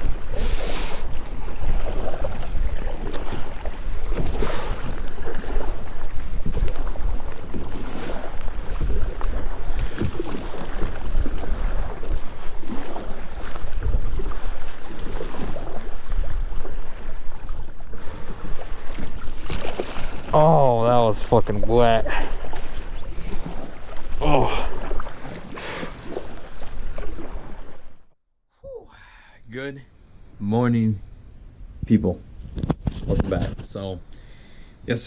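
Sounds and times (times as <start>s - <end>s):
waves splashing against kayak: 0.0s - 28.2s.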